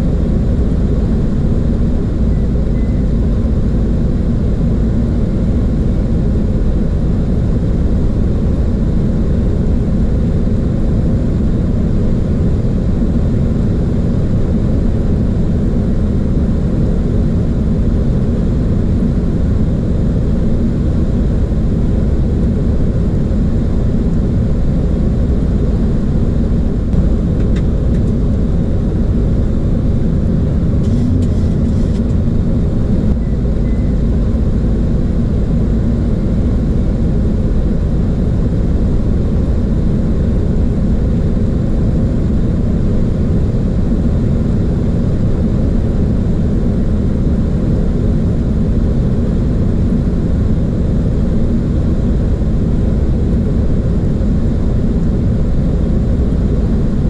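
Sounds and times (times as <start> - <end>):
airflow and engine rumble: 0.0 - 57.0.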